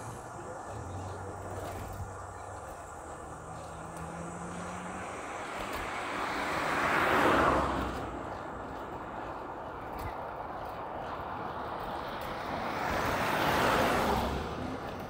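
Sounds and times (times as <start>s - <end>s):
bicycle riding noise: 0.0s - 15.0s
motor vehicle passing: 0.0s - 15.0s.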